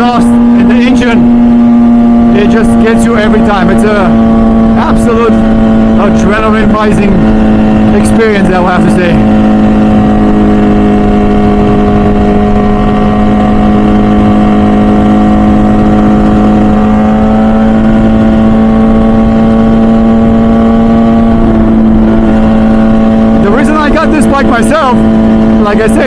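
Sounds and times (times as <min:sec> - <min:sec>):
wind noise: 0:00.0 - 0:25.9
motorcycle engine cruising: 0:00.0 - 0:26.0.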